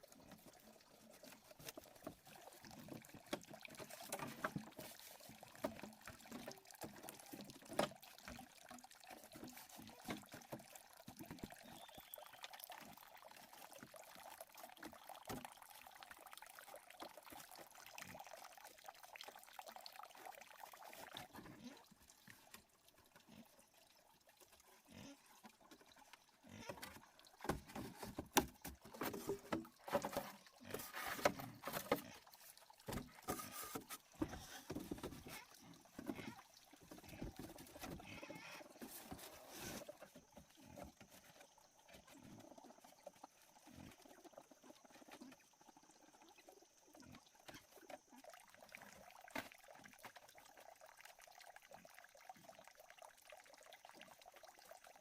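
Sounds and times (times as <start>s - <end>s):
faint trickling water: 0.0s - 55.0s.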